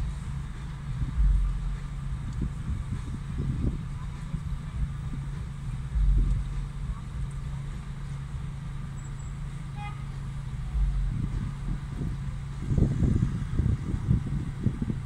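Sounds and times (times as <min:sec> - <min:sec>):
car engine rumble: 0:00.0 - 0:15.0
surrounding traffic: 0:00.0 - 0:15.0.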